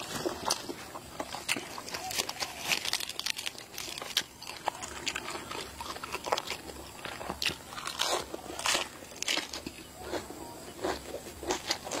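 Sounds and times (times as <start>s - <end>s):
lettuce crunching in mouth: 0.0s - 12.0s.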